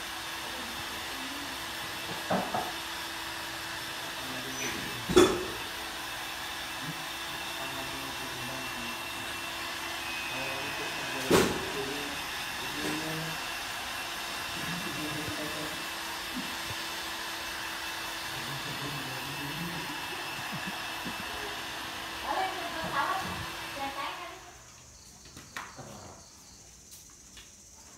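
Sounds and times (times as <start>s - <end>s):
heat gun blowing: 0.0s - 24.4s.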